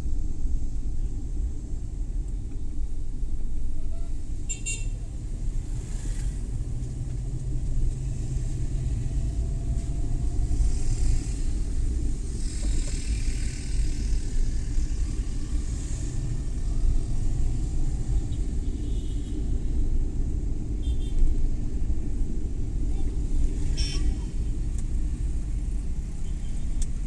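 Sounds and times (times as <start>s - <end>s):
van engine and road noise: 0.0s - 27.0s.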